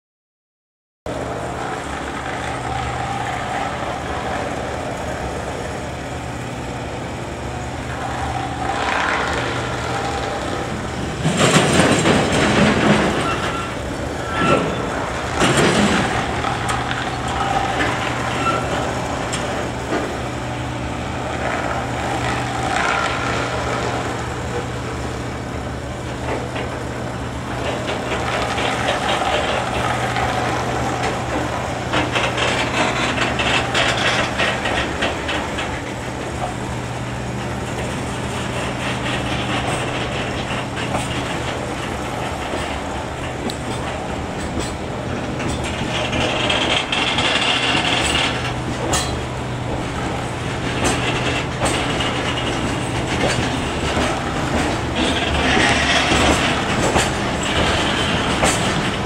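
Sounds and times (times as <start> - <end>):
train couplers clanking and banging: 1.1 - 59.0.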